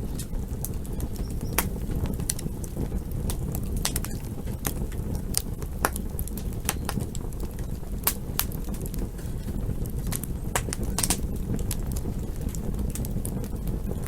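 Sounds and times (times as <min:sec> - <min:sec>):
low rush of flames: 0:00.0 - 0:14.0
wood crackling and popping: 0:00.0 - 0:14.0.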